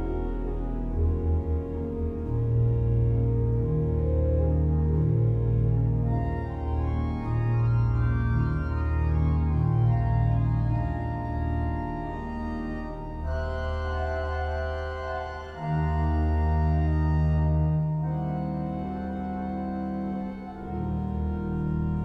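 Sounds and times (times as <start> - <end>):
pipe organ sustained chords: 0.0 - 22.0.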